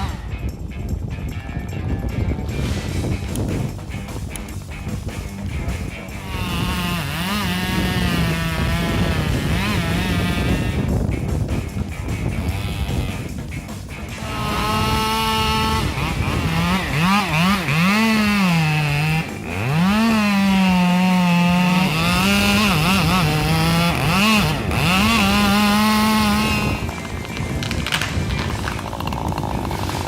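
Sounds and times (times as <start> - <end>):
chainsaw cutting wood: 0.0 - 0.2, 2.6 - 30.0.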